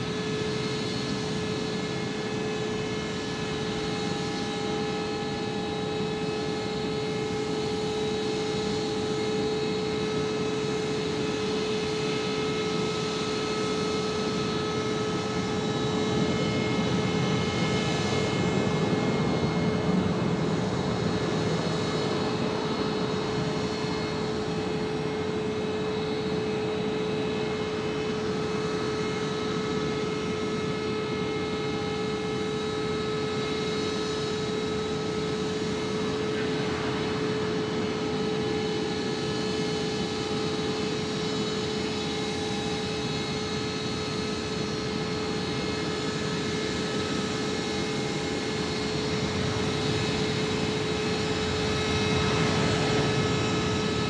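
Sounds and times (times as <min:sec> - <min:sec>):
jet engines whining and rumbling: 0:00.0 - 0:54.0.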